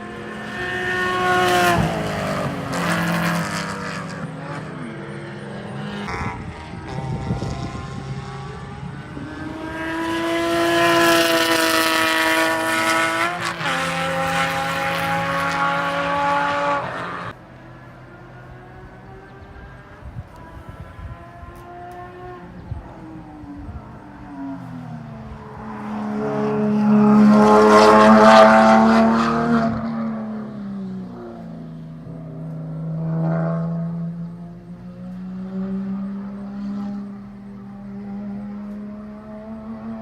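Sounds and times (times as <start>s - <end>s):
racecar engine revving: 0.0s - 40.0s.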